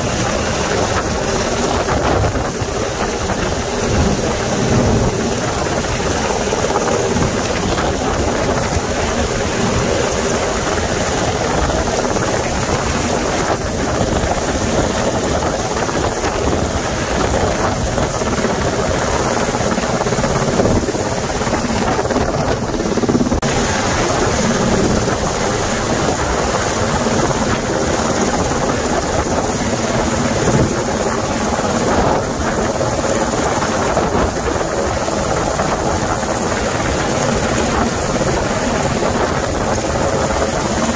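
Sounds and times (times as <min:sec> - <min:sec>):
helicopter rotor and turbine noise: 0:00.0 - 0:40.9.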